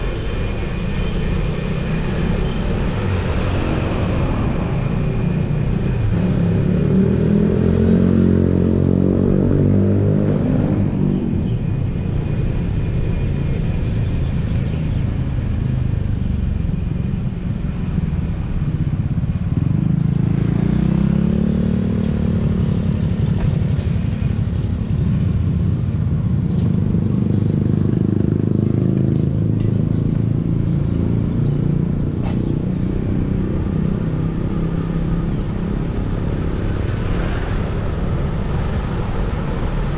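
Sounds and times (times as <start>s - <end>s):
low traffic rumble: 0.0s - 39.9s
motorcycle and car engines passing: 0.0s - 39.9s.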